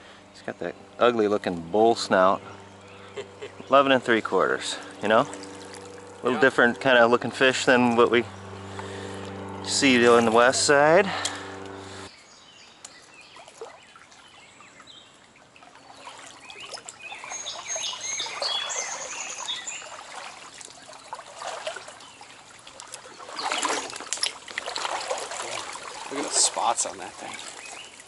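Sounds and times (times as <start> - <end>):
songbirds chirping: 0.0 - 28.0
stream trickling: 0.0 - 28.0.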